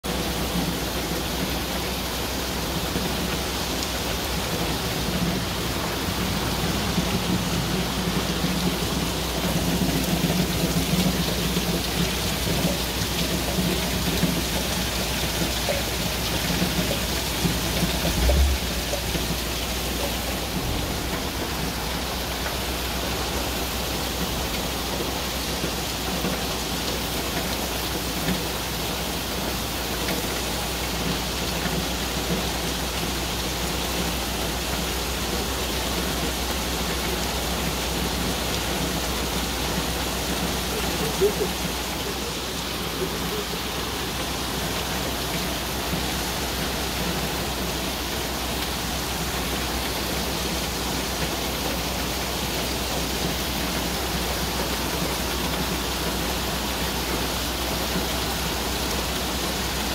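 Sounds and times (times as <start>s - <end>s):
heavy rain pouring and splashing: 0.0s - 59.9s.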